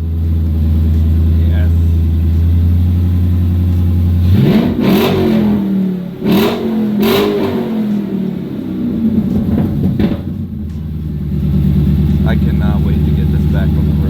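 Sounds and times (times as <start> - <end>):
car engine idling: 0.0 - 14.0
car engine revving: 0.0 - 14.0.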